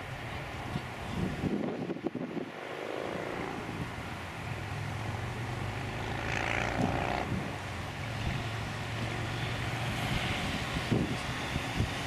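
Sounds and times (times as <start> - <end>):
distant jet engines rumbling: 0.0 - 12.0
jet engine whine: 0.0 - 12.0.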